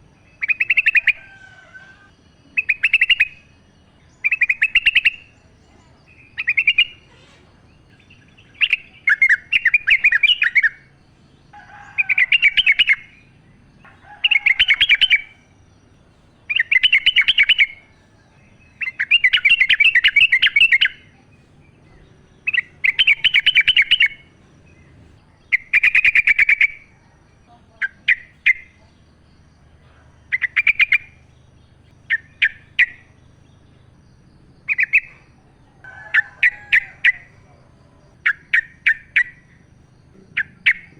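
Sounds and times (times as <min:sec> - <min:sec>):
bulbul singing chattering phrases: 0:00.0 - 0:40.9.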